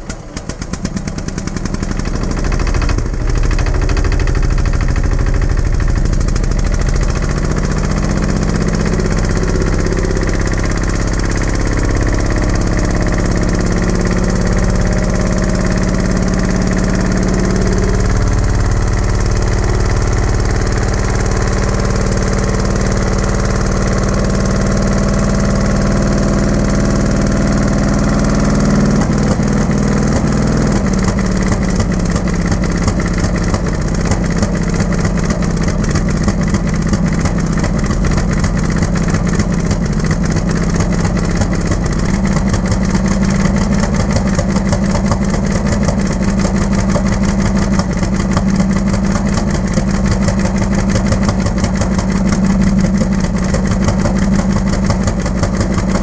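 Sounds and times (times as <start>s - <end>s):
diesel engine turning over: 0.0s - 56.0s
small engine running: 0.0s - 56.0s.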